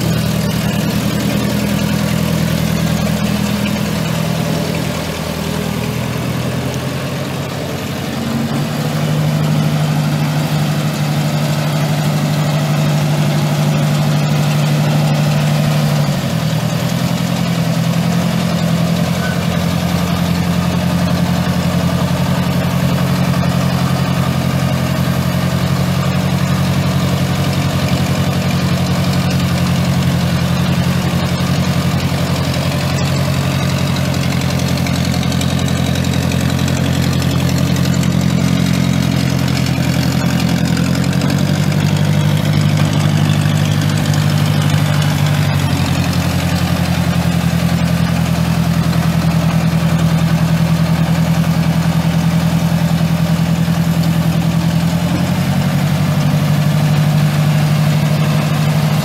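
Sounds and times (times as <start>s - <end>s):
tractor engine running steadily: 0.0s - 59.0s.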